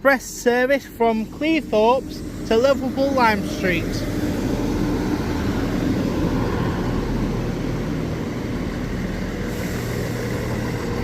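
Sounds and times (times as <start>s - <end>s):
diesel train engine rumble: 0.0s - 11.0s.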